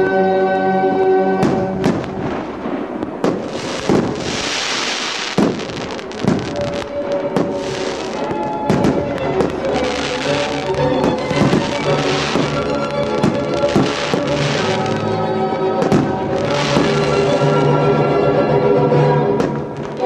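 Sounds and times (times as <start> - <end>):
music: 0.0 - 20.0
fireworks bangs: 1.4 - 18.0, 19.3 - 20.0
fireworks crackling: 1.4 - 18.0, 19.3 - 20.0.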